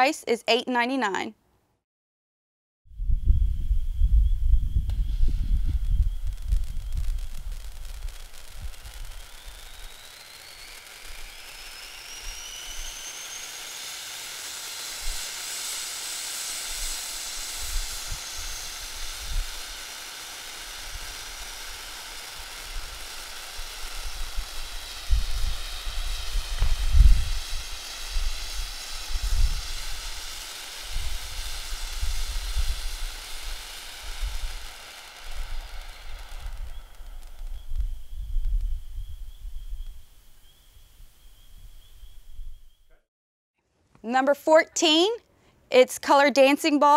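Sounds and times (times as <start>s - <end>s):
firework fountain hissing and whistling: 3.2s - 42.8s.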